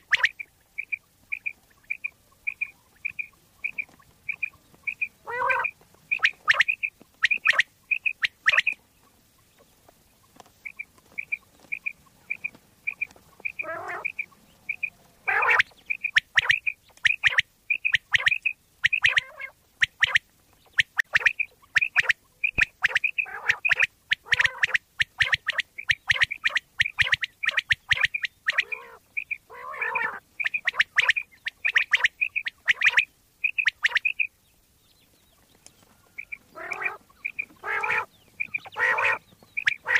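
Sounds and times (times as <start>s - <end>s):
lower harsh bird calls: 0.0s - 8.9s, 10.6s - 34.4s, 35.0s - 39.9s
quail calling: 0.0s - 10.0s, 10.6s - 34.4s, 35.4s - 39.9s.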